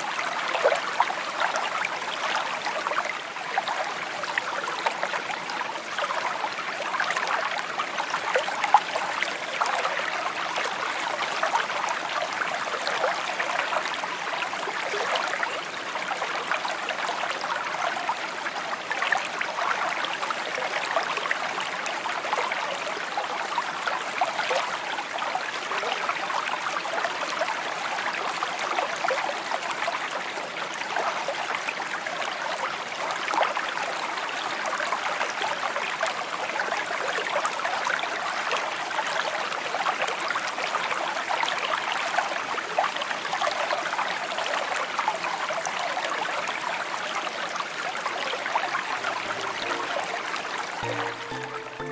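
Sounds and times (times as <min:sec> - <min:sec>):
stream babbling over stones: 0:00.0 - 0:51.9.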